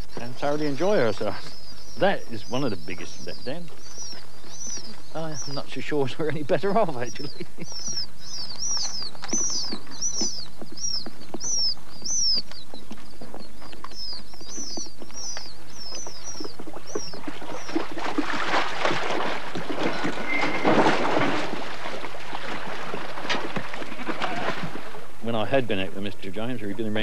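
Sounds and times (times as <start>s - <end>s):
pheasant chicks peeping: 0.0s - 27.0s.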